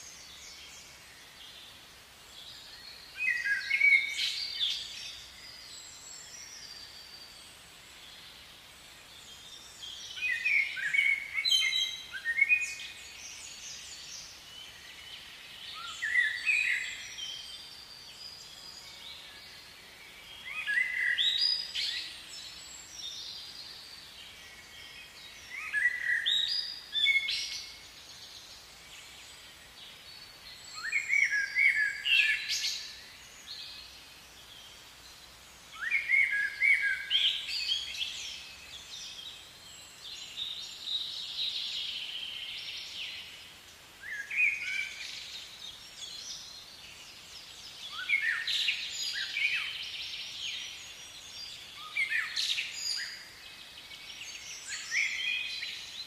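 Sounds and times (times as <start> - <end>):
faint outdoor background noise: 0.0 - 56.0
songbird singing: 0.0 - 56.0.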